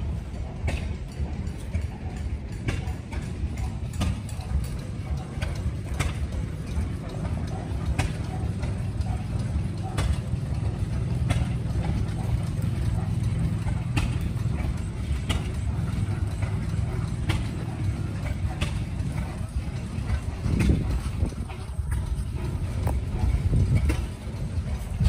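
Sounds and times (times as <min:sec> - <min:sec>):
stationary engines chugging: 0:00.0 - 0:25.0.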